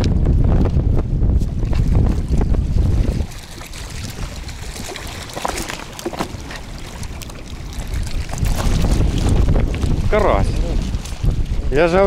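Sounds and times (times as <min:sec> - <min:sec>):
wind rumble on microphone: 0:00.0 - 0:12.0
water splashes in shallow water: 0:01.2 - 0:12.0.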